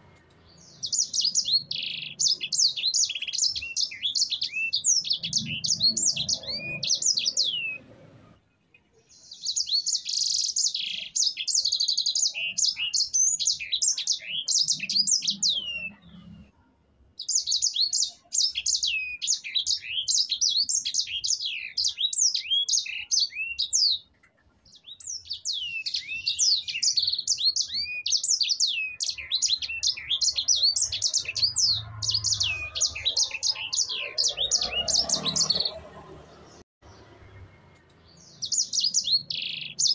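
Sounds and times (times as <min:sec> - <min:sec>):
finch singing: 0:00.0 - 0:08.2, 0:09.0 - 0:16.5, 0:17.2 - 0:39.9.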